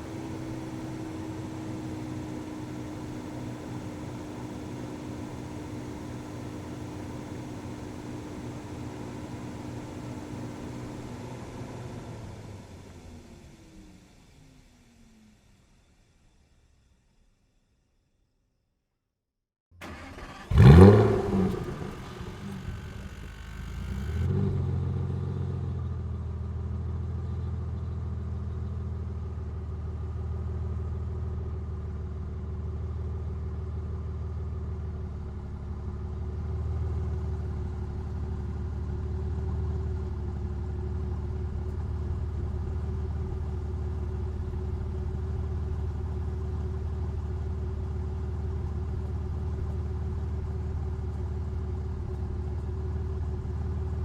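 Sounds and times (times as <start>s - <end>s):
car engine idling: 0.0s - 11.1s, 19.8s - 24.4s, 25.2s - 54.0s.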